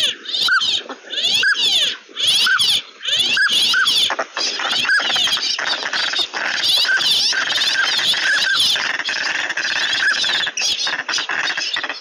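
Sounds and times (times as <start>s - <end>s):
ducks whistling: 0.0s - 12.0s
higher overlapping bird calls: 0.0s - 12.0s.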